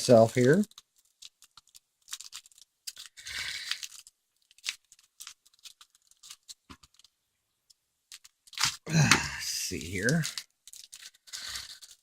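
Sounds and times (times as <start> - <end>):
packaging crinkling tear: 0.0 - 7.2, 8.1 - 12.0
packaging clicks and scrapes: 0.1 - 7.2, 8.1 - 8.8, 9.9 - 12.0.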